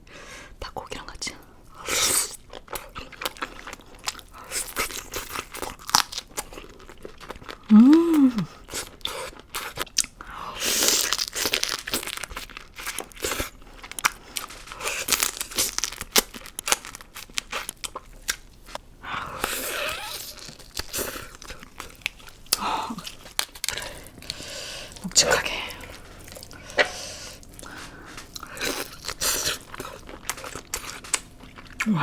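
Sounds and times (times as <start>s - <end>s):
crunchy chewing of food: 1.7s - 32.0s.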